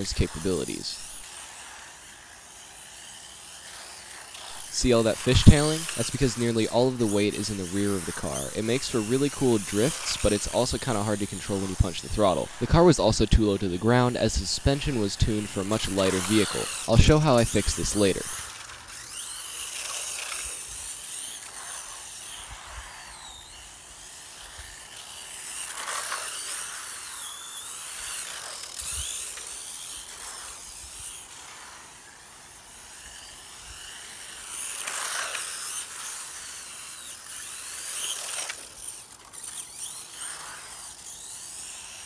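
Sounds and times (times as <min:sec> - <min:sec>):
rc car motor whining: 0:00.0 - 0:42.0.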